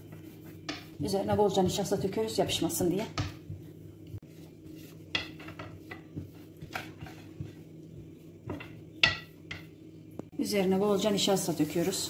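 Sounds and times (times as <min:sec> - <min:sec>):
rolling pin rubbing dough: 0:00.0 - 0:10.0, 0:10.9 - 0:12.0.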